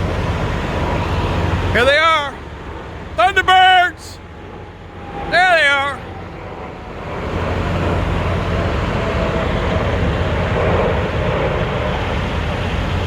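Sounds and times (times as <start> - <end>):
faint jet whine: 0.0 - 13.0
fighter jets roaring overhead: 0.0 - 13.0.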